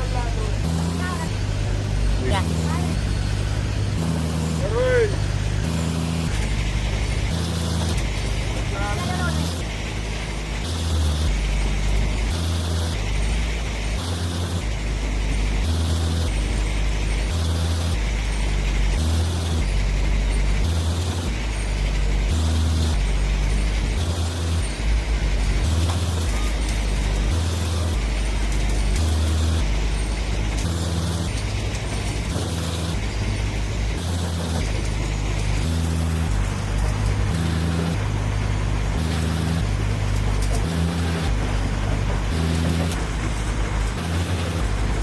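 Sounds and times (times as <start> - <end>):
pulsing diesel machinery rumble: 0.0 - 45.0.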